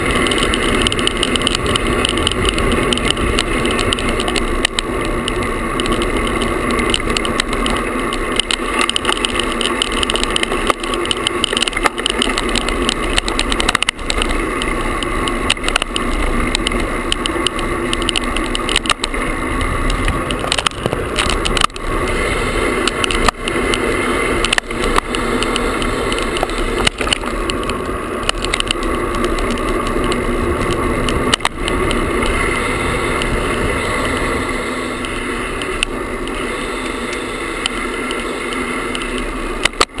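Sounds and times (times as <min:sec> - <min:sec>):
camera rattling against handlebars: 0:00.0 - 0:40.0.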